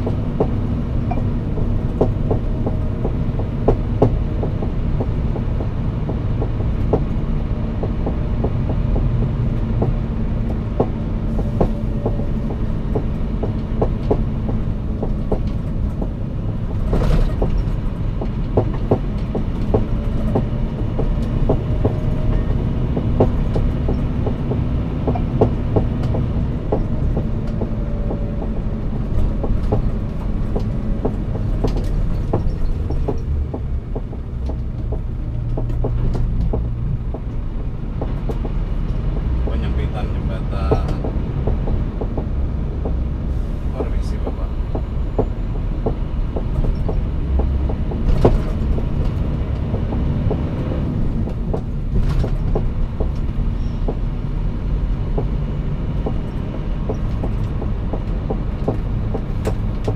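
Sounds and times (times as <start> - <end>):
small rattles and knocks: 0.0 - 59.9
truck engine drone: 0.0 - 59.9.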